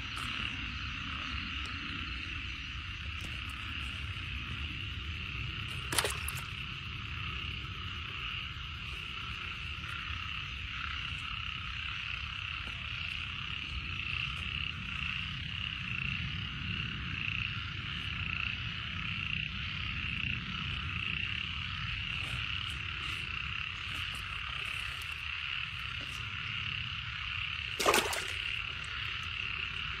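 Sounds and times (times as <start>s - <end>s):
chorus of frogs calling: 0.0s - 30.0s.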